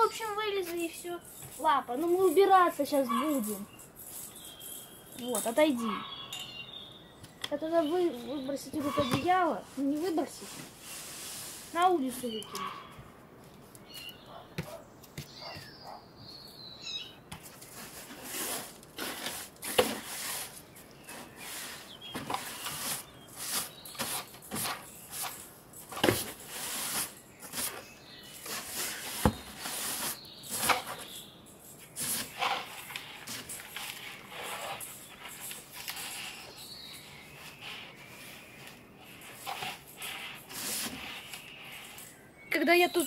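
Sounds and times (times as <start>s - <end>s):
brushing and rustling strokes: 0.0s - 5.9s, 7.6s - 15.7s, 17.3s - 43.0s.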